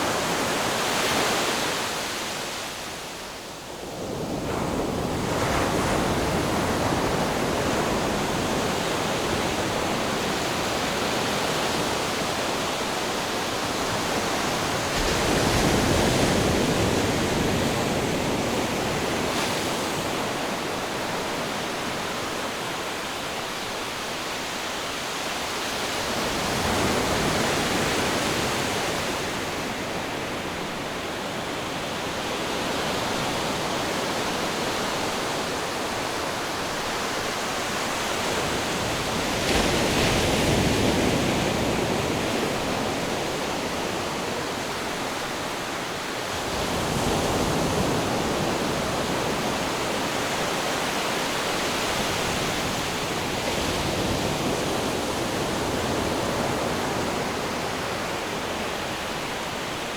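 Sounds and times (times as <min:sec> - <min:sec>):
ocean waves washing onto shore: 0:00.0 - 0:59.9.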